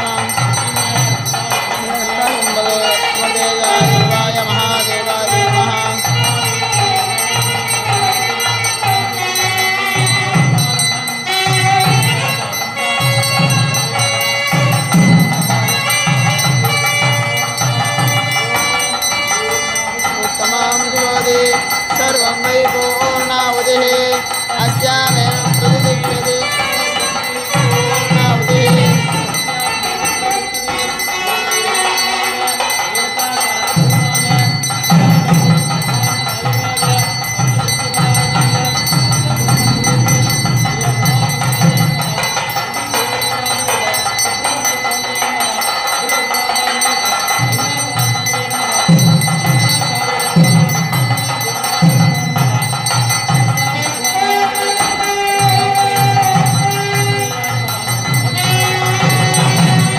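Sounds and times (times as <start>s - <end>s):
brass hand bell ringing: 0.0s - 59.9s
man chanting: 0.0s - 59.9s.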